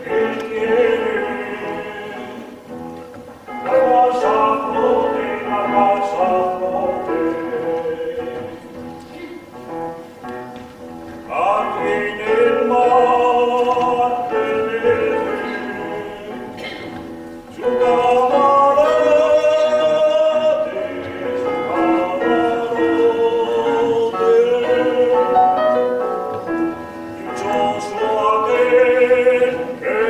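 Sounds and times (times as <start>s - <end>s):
male choir singing: 0.0s - 2.6s, 3.5s - 8.7s, 11.3s - 16.8s, 17.5s - 26.0s, 27.2s - 30.0s
piano accompaniment: 0.0s - 30.0s.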